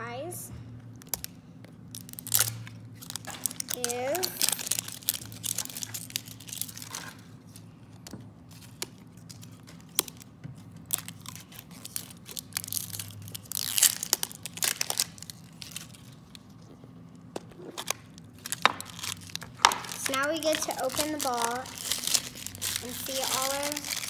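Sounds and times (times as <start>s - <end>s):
plastic wrapper crinkling and tearing: 0.9s - 7.6s, 8.5s - 24.0s.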